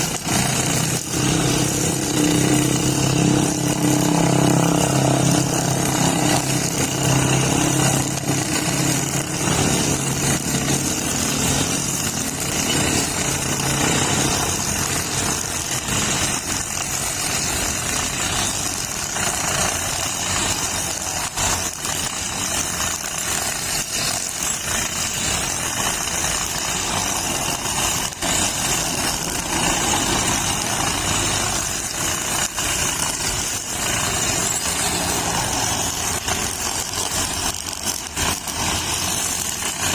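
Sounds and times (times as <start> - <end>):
brush cutter engine: 0.0 - 39.9
string trimmer whirring through grass: 0.0 - 39.9.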